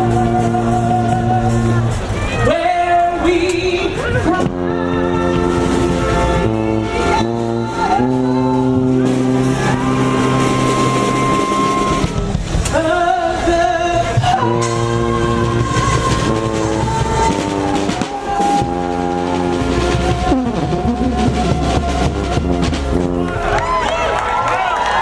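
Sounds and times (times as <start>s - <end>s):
person singing: 0.0s - 12.0s, 12.7s - 23.0s
brass band playing: 0.0s - 24.3s.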